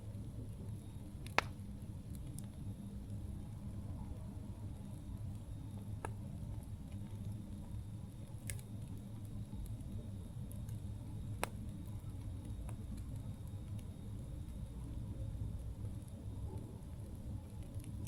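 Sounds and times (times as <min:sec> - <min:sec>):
campfire low rumble: 0:00.0 - 0:18.0
wood crackling and popping: 0:00.0 - 0:18.0.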